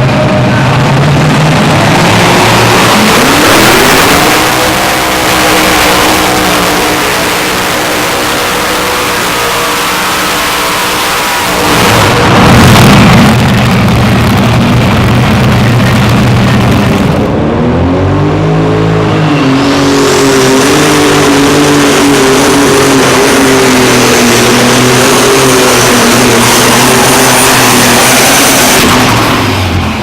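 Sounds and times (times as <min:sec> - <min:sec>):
high whine: 0:00.0 - 0:30.0
tractor engine running loud: 0:00.0 - 0:30.0.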